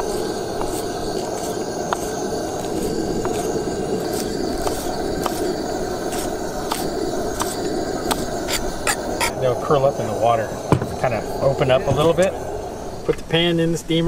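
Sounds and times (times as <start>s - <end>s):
steady rushing background noise: 0.0s - 14.0s.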